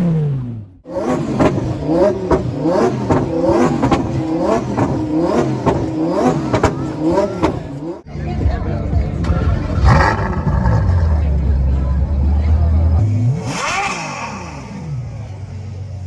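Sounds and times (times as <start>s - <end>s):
car engine revving: 0.0s - 16.0s
exhaust cracks: 0.0s - 16.0s.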